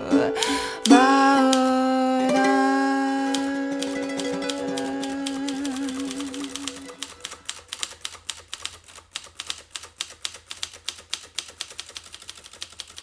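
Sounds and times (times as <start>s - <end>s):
rapid sharp clicking: 0.4s - 1.8s, 3.3s - 13.0s.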